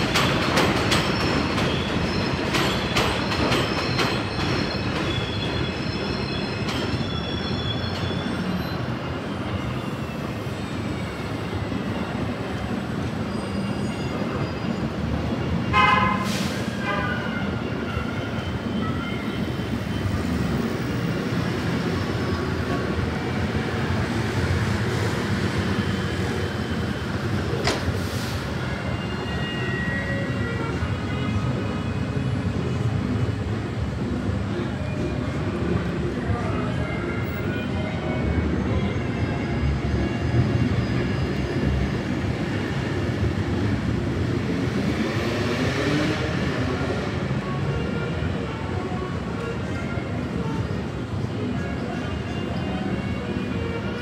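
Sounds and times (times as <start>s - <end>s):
elevated train rumbling: 0.0s - 54.0s
street traffic: 0.0s - 54.0s.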